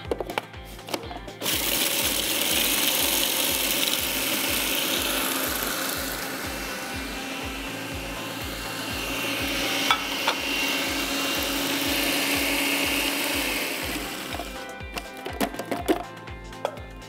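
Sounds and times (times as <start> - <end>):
food processor running: 1.4 - 15.9.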